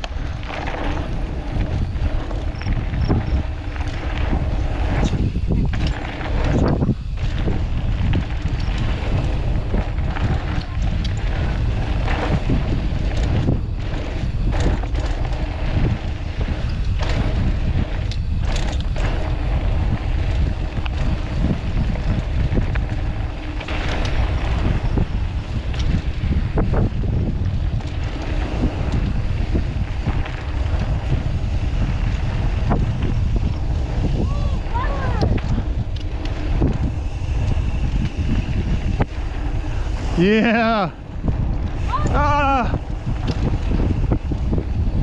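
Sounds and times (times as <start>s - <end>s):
bike rattling over rough ground: 0.0s - 45.0s
wind buffeting microphone: 0.0s - 45.0s.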